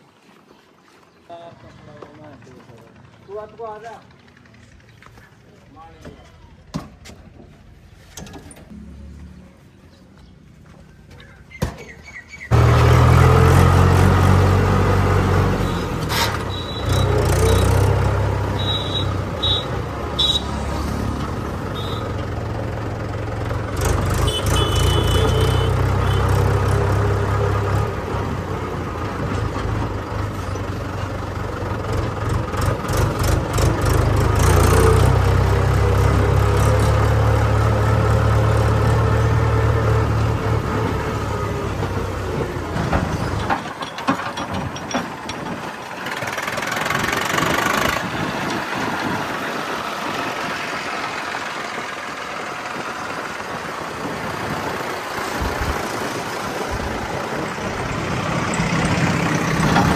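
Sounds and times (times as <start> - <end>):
diesel engine under load: 1.4 - 59.9.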